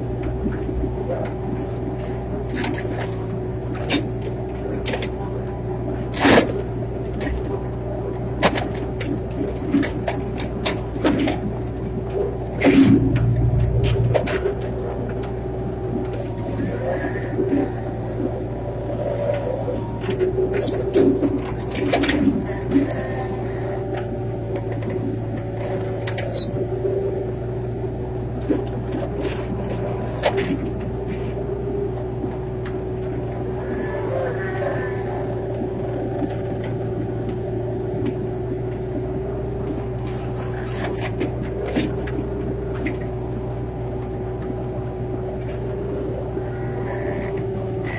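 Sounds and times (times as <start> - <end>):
excavator engine running: 0.0 - 47.9.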